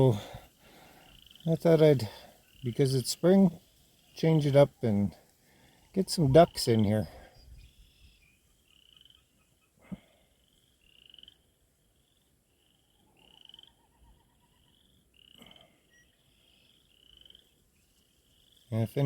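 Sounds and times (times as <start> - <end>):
frogs trilling: 0.0 - 4.9, 5.6 - 19.0.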